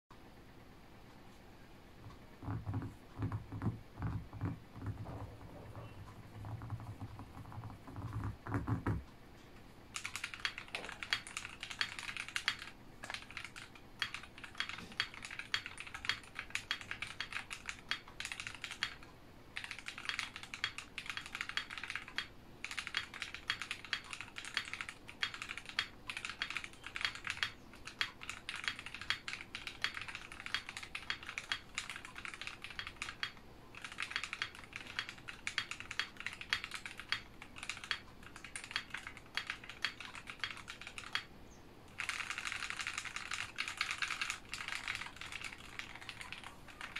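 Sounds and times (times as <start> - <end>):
fast typing on mechanical keyboard: 2.4 - 9.1, 9.9 - 41.3, 41.9 - 46.9.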